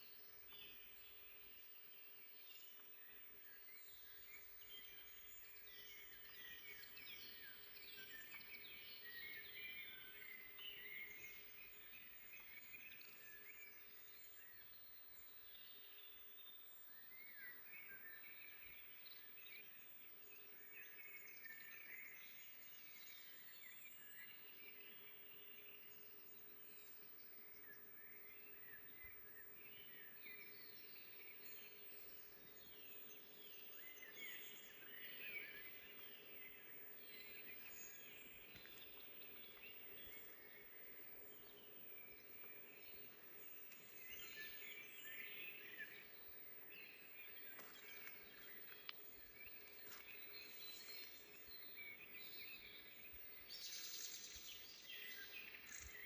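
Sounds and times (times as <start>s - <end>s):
faint steady hum: 0.0s - 56.0s
songbirds chirping and trilling: 0.0s - 56.0s.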